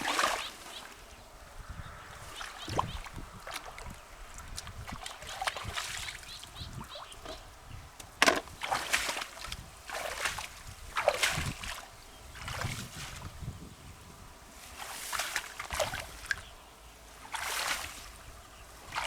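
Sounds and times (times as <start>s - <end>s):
water splashing and sloshing: 0.0s - 1.2s, 1.8s - 13.5s, 14.5s - 19.0s.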